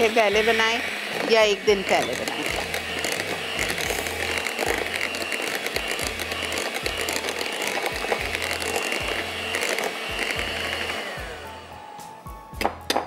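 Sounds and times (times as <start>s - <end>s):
electric hand mixer whisking: 0.0s - 13.0s.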